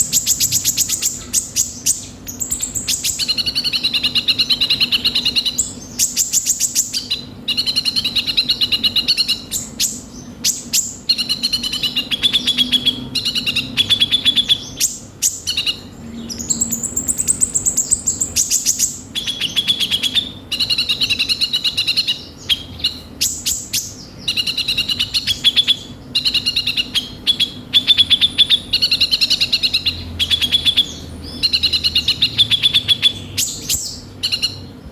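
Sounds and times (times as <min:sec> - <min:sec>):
sunbird singing: 0:00.0 - 0:34.9.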